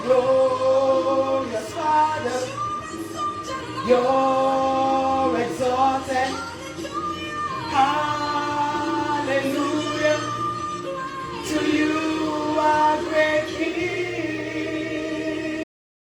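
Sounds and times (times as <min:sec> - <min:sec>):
backing music: 0:00.0 - 0:15.6
voices singing worship song: 0:00.0 - 0:15.7.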